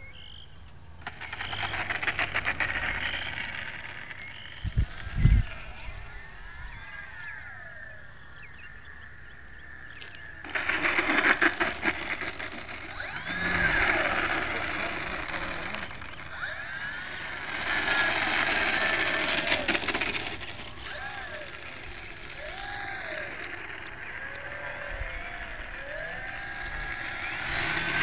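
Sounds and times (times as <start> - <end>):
model plane motors whining: 1.0 - 28.0.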